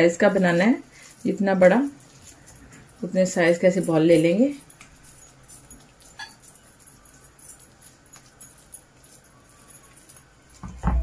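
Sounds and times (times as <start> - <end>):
hands shaping minced meat: 0.0 - 11.0.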